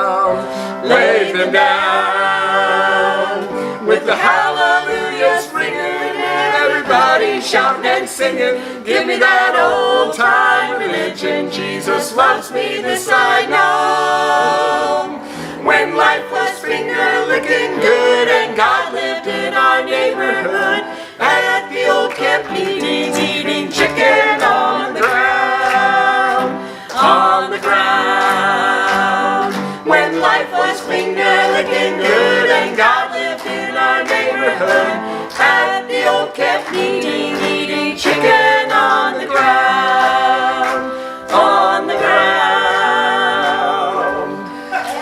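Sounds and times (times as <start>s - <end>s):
voices singing gospel in harmony: 0.0s - 45.0s.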